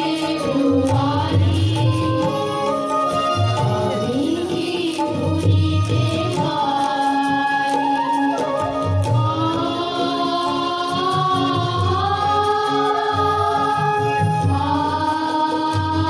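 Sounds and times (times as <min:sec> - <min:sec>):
voices singing together: 0:00.0 - 0:02.9, 0:04.0 - 0:08.2, 0:09.0 - 0:16.0.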